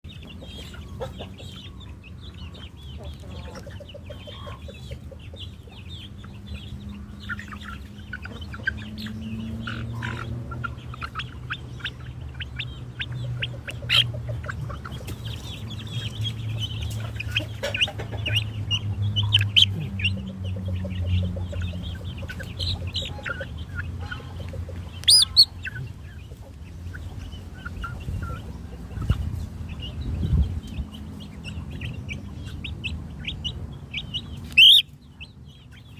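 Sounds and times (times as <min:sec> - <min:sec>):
chickens clucking: 0:00.0 - 0:35.9
high chirps and calls: 0:00.1 - 0:35.9.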